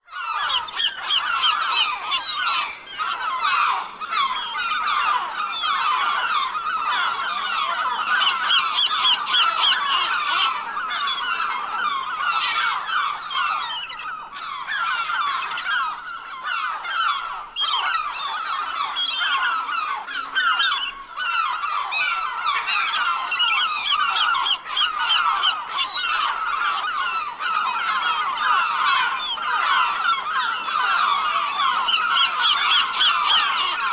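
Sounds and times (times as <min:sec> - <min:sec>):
seagulls calling: 0:00.1 - 0:33.9.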